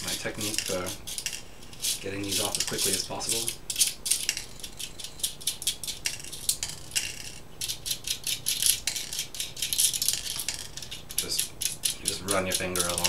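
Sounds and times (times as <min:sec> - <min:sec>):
small metal nuts clicking and rattling: 0:00.0 - 0:13.0.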